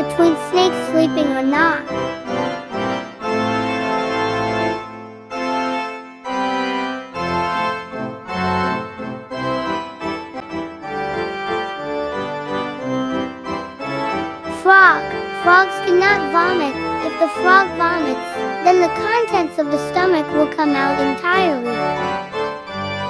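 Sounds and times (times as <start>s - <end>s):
organ-like keyboard tune: 0.0s - 23.0s.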